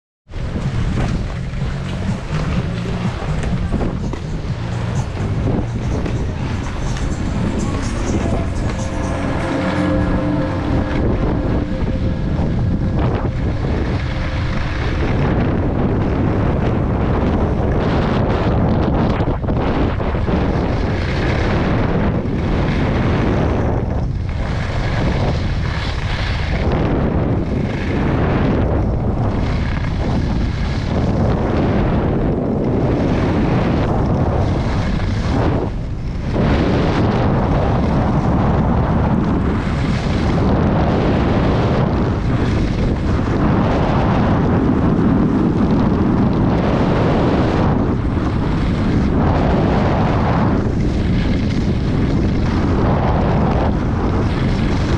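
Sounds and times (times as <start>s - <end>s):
wind buffeting microphone: 0.3s - 54.9s
skis scraping on snow: 0.4s - 18.7s, 19.9s - 54.9s.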